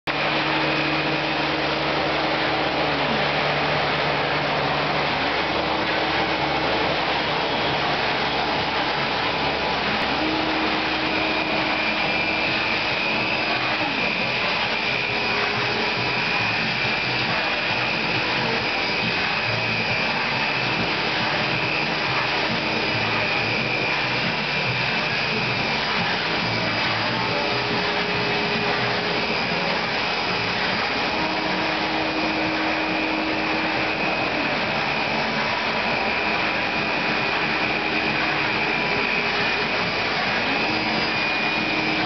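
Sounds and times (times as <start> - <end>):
low hum: 0.0 - 42.0
wet sander motor running: 0.0 - 42.0
faint high whine: 0.1 - 42.0.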